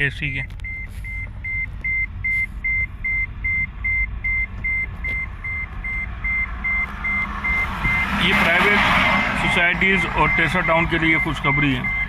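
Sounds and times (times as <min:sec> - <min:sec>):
car driving rumble: 0:00.0 - 0:12.0
rapid high electronic beeping: 0:00.7 - 0:08.8, 0:09.4 - 0:12.0.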